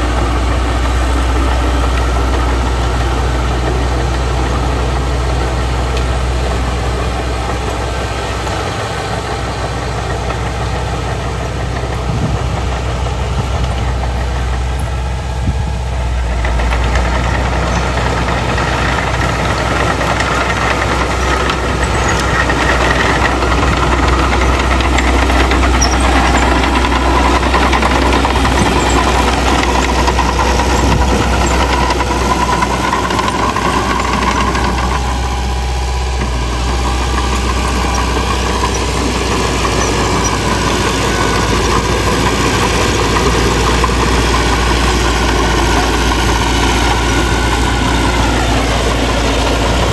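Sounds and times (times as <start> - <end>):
heavy machinery diesel engine: 0.0 - 49.9.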